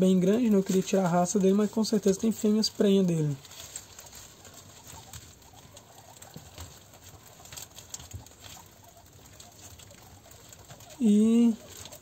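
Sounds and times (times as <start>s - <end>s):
faint rustling: 0.0s - 12.0s
guinea pigs chewing: 0.0s - 12.0s
guinea pigs chirping: 0.0s - 12.0s.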